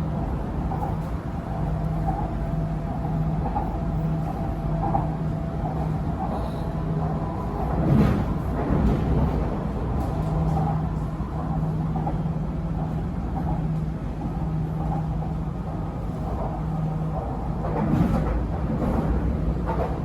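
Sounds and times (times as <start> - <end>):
electric train rumble inside carriage: 0.0 - 20.0.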